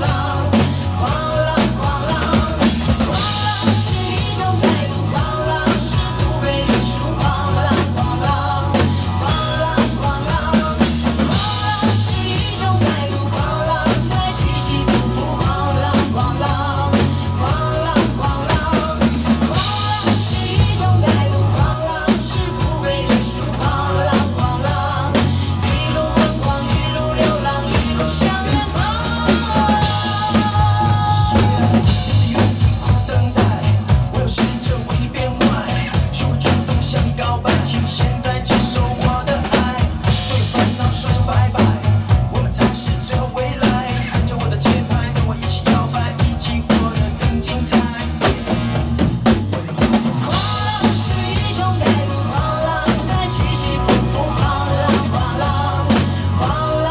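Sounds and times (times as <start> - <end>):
drum kits playing a beat: 0.0 - 56.9
pop backing track with singing: 0.0 - 56.9.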